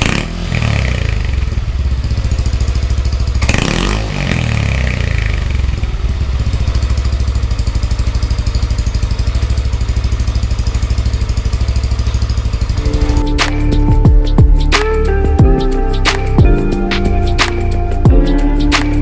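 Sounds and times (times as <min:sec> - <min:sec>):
scooter engine idling: 0:00.0 - 0:19.0.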